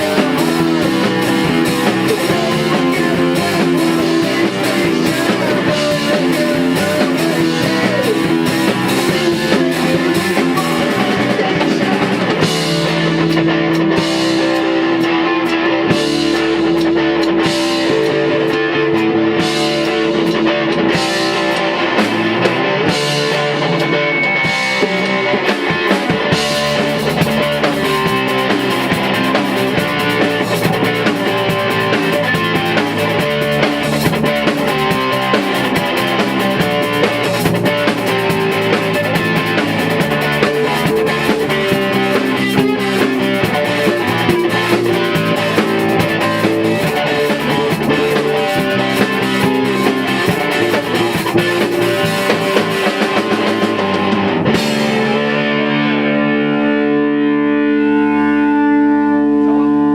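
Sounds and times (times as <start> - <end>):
drum kit and cymbals: 0.0 - 55.8
bass guitar: 0.0 - 59.9
guitar: 0.0 - 59.9.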